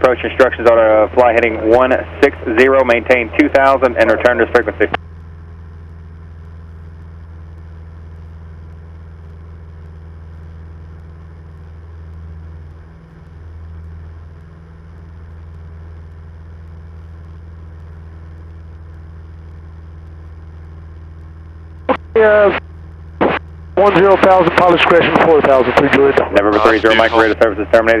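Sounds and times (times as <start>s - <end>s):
airplane engine cabin drone: 0.0s - 28.0s.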